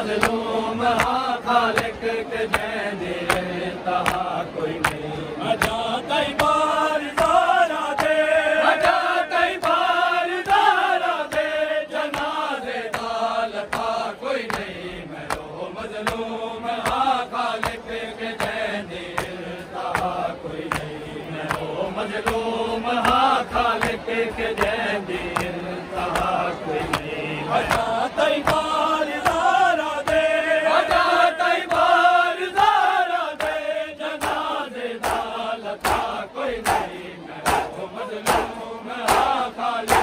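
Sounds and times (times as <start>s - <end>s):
men chanting a lament: 0.0s - 40.0s
hands slapping chests: 0.1s - 8.2s, 8.8s - 30.3s, 33.4s - 33.6s, 34.2s - 40.0s.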